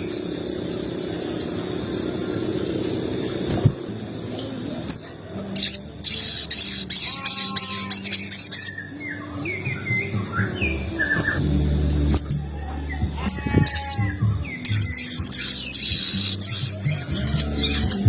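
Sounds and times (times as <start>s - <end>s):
birds chirping: 0.0s - 18.0s
low steady hum: 0.0s - 18.0s.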